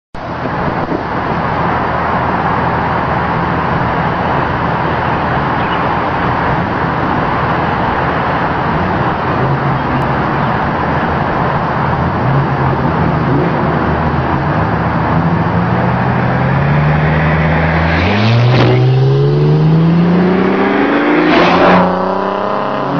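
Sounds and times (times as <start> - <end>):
car engine droning: 0.2 - 22.9.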